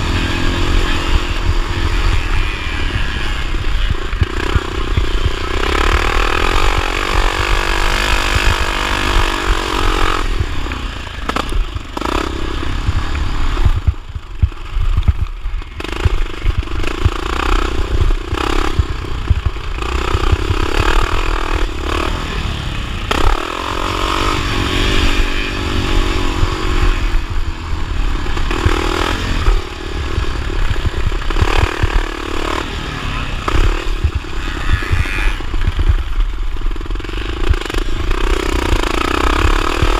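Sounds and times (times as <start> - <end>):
motorcycle engine revving: 0.0 - 39.9
motorcycle rattling and clatter: 0.0 - 39.9.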